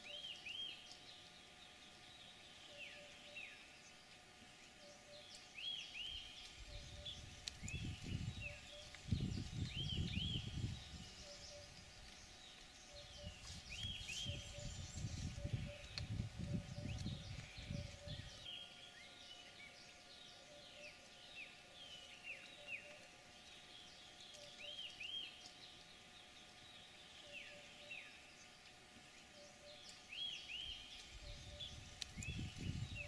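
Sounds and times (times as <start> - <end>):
faint birdsong whistles: 0.0 - 33.0
faint steady drone: 0.0 - 33.0.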